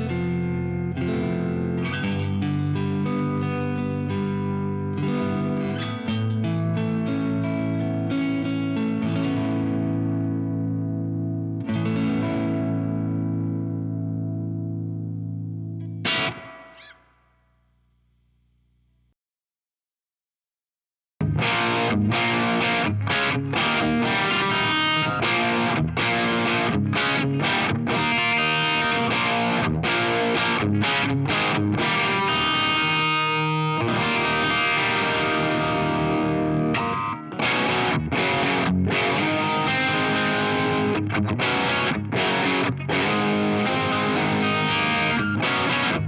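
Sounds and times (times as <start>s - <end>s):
distorted electric guitar chords: 0.0s - 17.1s, 21.2s - 46.0s.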